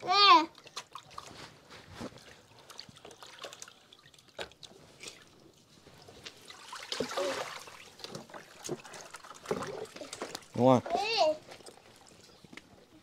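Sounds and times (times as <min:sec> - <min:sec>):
faint water dripping and trickling: 0:00.0 - 0:13.0.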